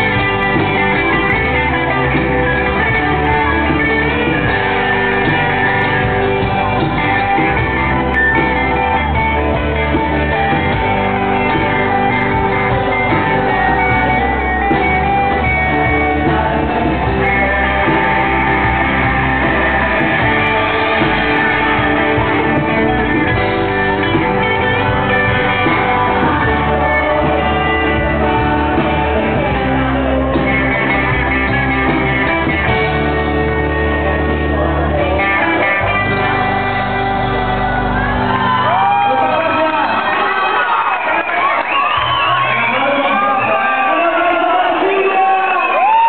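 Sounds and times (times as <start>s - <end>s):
person singing: 0.0s - 39.5s
live rock band playing: 0.0s - 46.0s.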